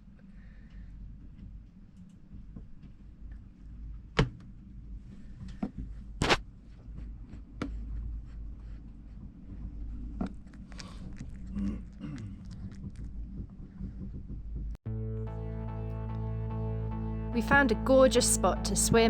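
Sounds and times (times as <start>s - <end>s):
low steady hum: 0.0s - 14.8s, 15.6s - 19.0s.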